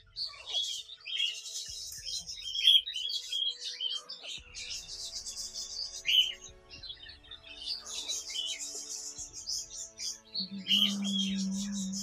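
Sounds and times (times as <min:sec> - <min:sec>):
birds chirping and chattering: 0:00.0 - 0:12.0.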